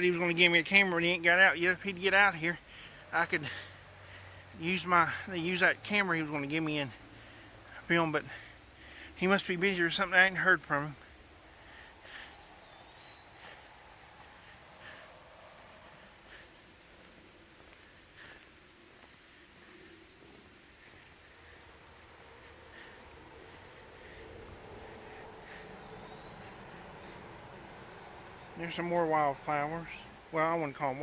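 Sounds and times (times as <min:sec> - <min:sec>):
insect chorus chirring: 0:00.0 - 0:31.0.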